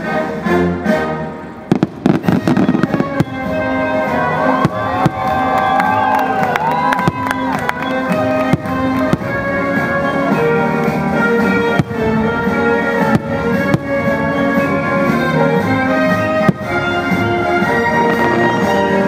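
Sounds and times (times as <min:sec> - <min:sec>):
orchestral music with brass: 0:00.0 - 0:19.0
firework bangs: 0:01.6 - 0:19.0.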